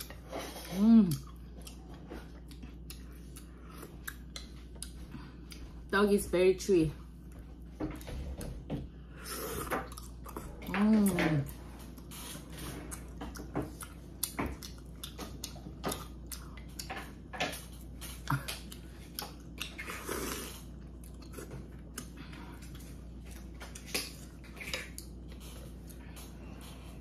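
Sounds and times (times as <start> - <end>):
person chewing with mouth smacks: 0.0 - 5.9, 9.2 - 10.7, 11.5 - 26.9.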